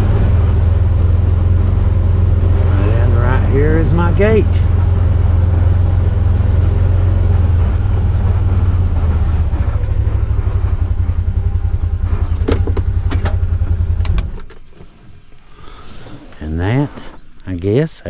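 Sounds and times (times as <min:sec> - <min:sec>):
vehicle engine idling: 0:00.0 - 0:17.8.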